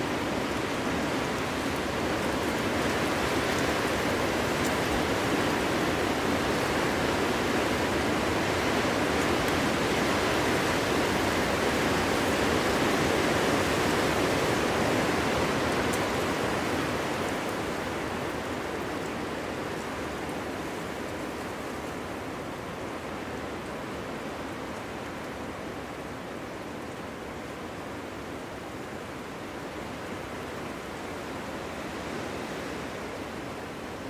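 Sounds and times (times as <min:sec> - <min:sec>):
wind blowing through trees: 0:00.0 - 0:34.0.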